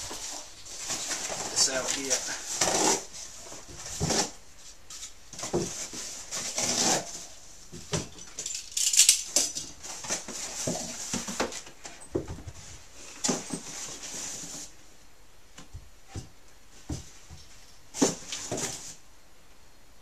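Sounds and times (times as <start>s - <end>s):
cardboard rustling and scraping: 0.0s - 8.2s, 9.3s - 14.9s, 16.0s - 19.0s.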